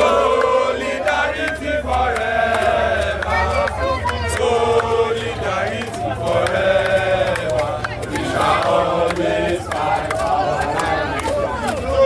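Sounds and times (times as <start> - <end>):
crowd chanting: 0.0 - 12.0.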